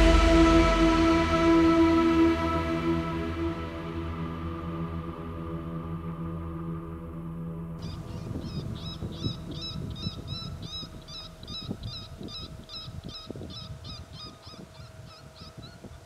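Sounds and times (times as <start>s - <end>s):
wind rumble: 0.0s - 16.0s.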